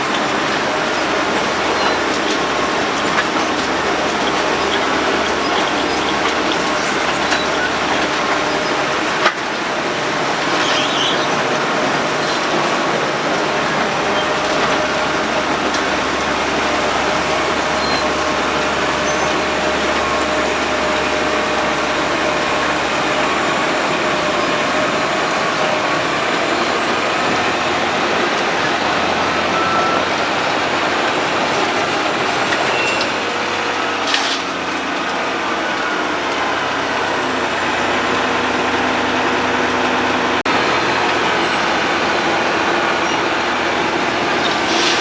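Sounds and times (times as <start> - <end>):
road milling machine running: 0.0 - 45.0.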